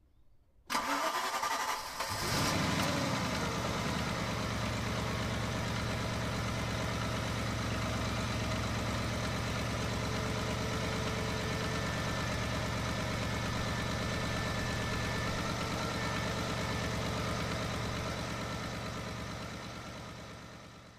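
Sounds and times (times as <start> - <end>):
car engine idling: 2.0 - 20.9.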